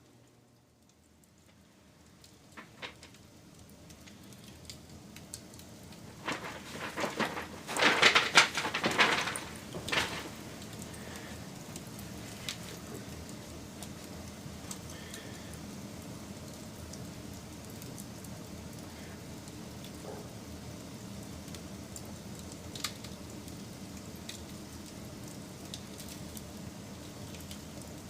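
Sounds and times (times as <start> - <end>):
wood fire crackling and popping: 0.2 - 28.0.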